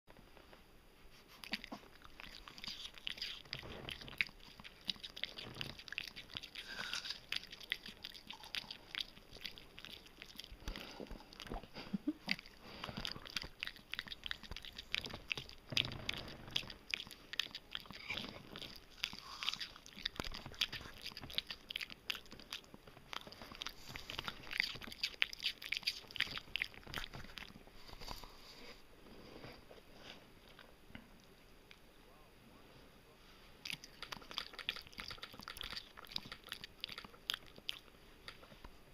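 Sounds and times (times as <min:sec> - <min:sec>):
dog chewing apple: 0:01.4 - 0:28.5, 0:33.7 - 0:38.6.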